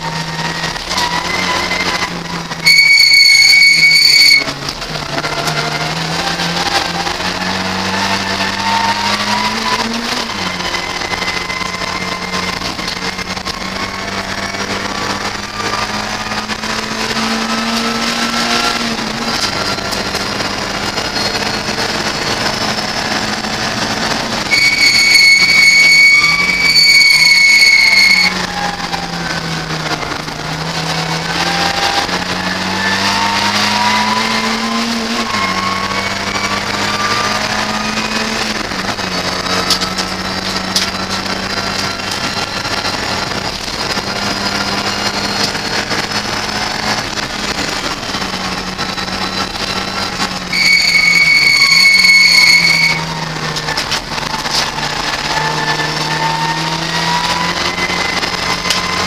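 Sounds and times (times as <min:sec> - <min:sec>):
car engine revving: 0:00.0 - 0:59.0
loud high-pitched squeal: 0:00.0 - 0:59.0.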